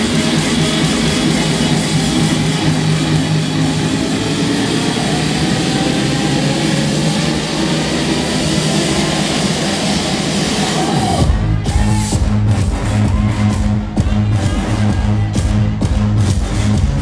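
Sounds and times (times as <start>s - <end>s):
loud electronic dance music: 0.0s - 17.0s.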